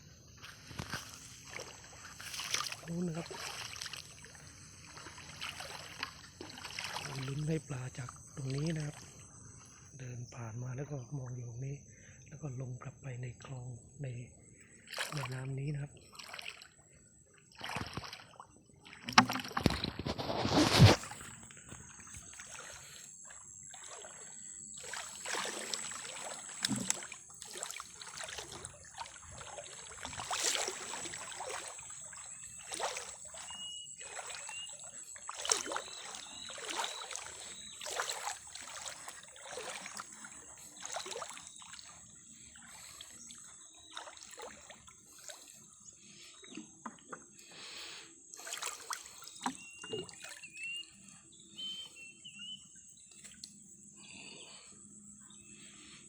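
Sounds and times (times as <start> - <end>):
water splashing and sloshing: 0.0 - 9.9, 13.0 - 56.0.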